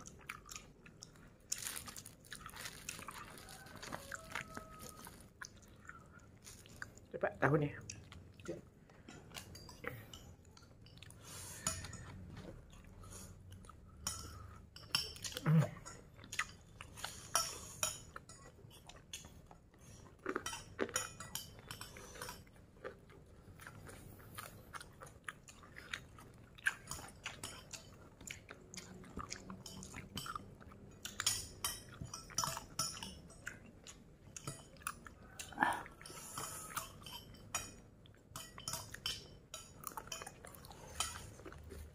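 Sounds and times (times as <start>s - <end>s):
person chewing and crunching: 0.0s - 41.9s.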